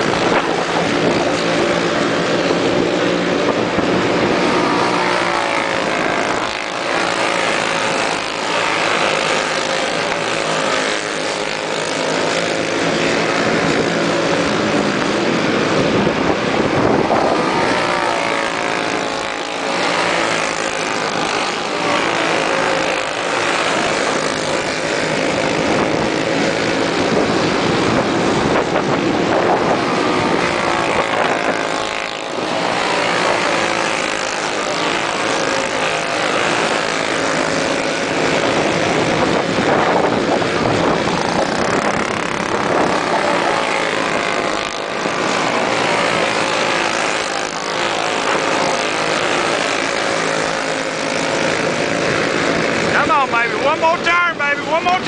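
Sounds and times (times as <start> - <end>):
kart engines racing: 0.0 - 55.0.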